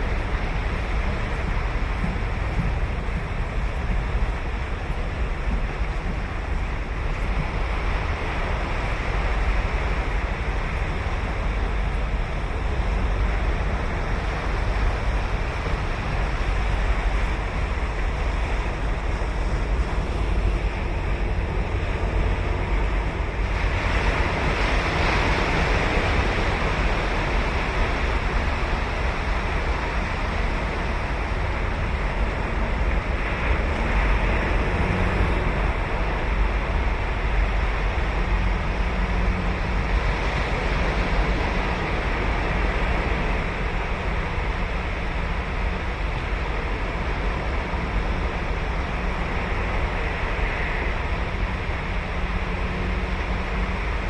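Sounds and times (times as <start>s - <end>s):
ocean surf breaking on beach: 0.0s - 54.0s
wind buffeting microphone: 0.0s - 54.0s.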